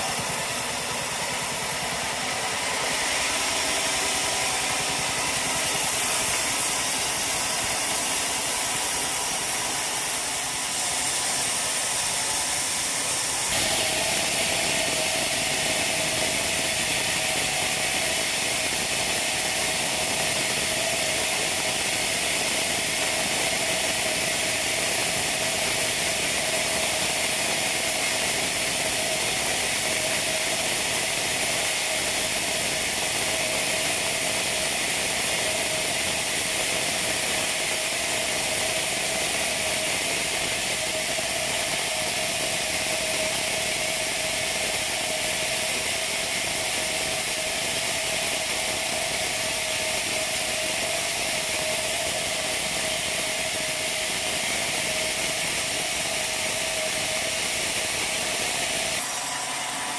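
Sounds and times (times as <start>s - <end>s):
sawmill machinery running: 0.0s - 59.9s
steady hum: 0.0s - 59.9s.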